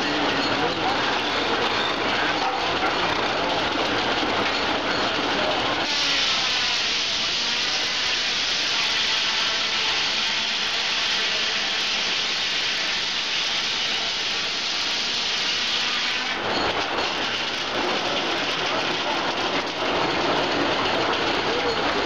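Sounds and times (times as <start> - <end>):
circular saw cutting log: 0.0 - 22.0
rattle of running mill: 0.0 - 22.0.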